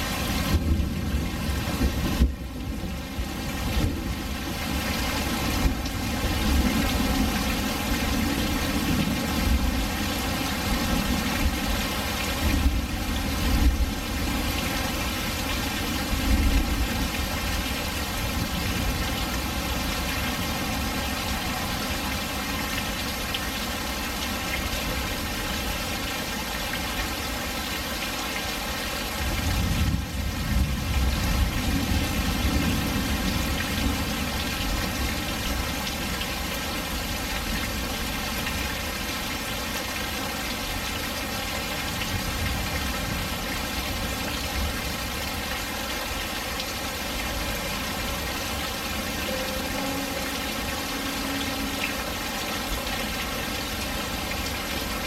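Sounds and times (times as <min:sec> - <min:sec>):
rain splashing on hard surface: 0:00.0 - 0:55.0.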